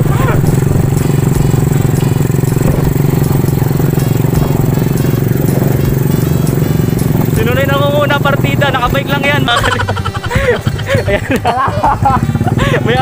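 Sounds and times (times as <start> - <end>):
small motorcycle engine cruising: 0.0 - 13.0.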